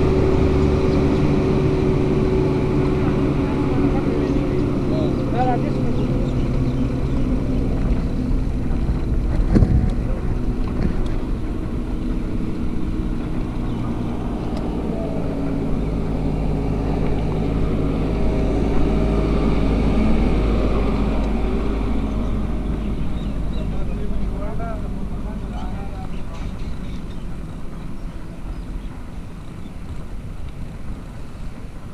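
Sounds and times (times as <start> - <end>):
traffic hum: 0.0 - 31.9
wind rumbling on microphone: 0.0 - 31.9.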